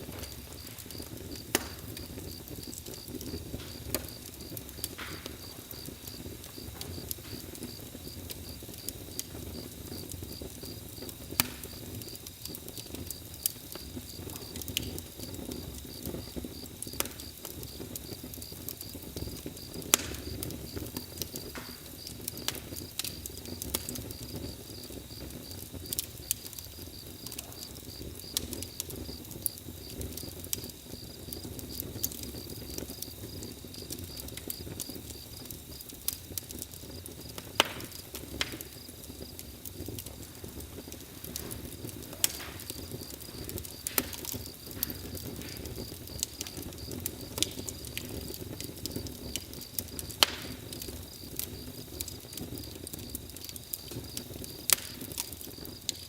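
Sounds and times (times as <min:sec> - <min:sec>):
bonfire crackling and popping: 0:00.0 - 0:56.0
cricket trill: 0:00.1 - 0:56.0.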